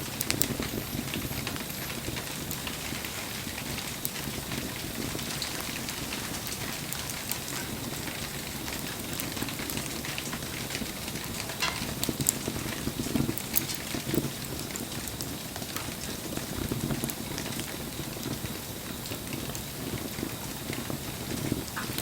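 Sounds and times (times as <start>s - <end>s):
campfire crackling: 0.0s - 22.0s
rain patter: 0.0s - 22.0s.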